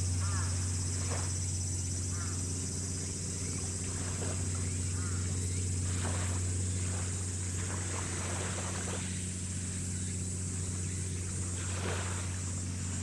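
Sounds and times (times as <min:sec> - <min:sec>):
ship engines droning: 0:00.0 - 0:13.0.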